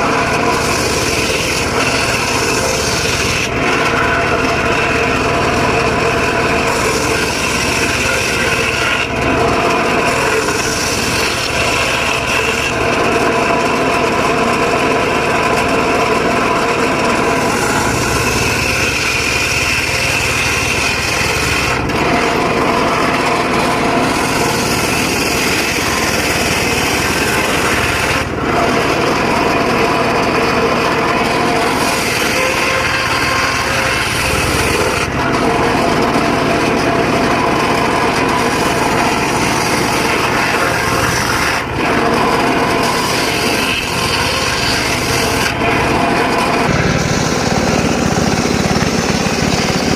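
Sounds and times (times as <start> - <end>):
circular saw cutting wood: 0.0 - 49.9.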